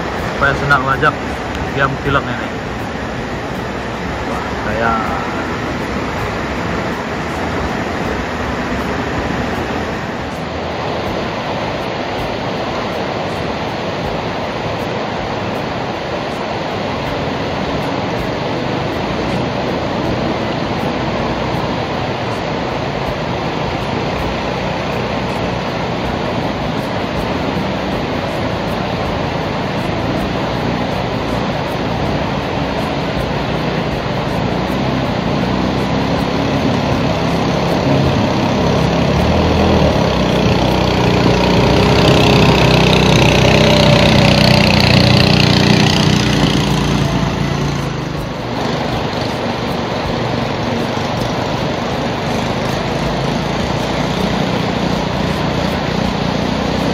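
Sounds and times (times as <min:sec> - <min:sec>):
outboard engine: 0:00.0 - 0:56.9
river rushing through rapids: 0:00.0 - 0:56.9.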